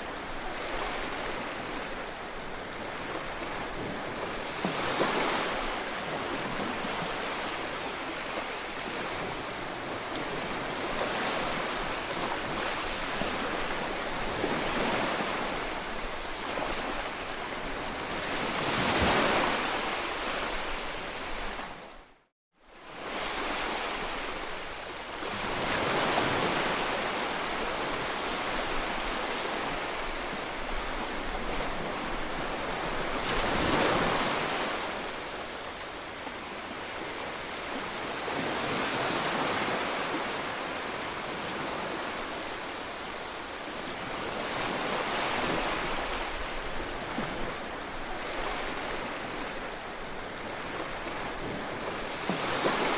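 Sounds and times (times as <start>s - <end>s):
waves washing onto beach: 0.0s - 22.1s, 22.7s - 52.9s.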